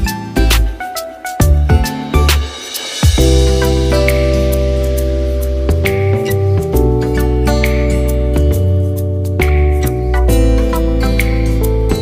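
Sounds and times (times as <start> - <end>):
plucked guitar music: 0.0 - 12.0
steady bass: 1.4 - 12.0.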